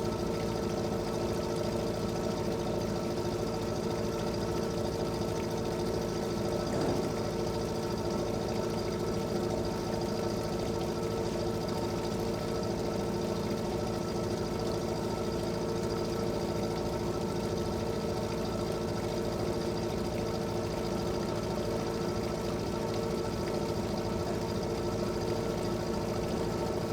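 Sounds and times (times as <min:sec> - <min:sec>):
boat engine running: 0:04.1 - 0:12.2, 0:13.4 - 0:26.9.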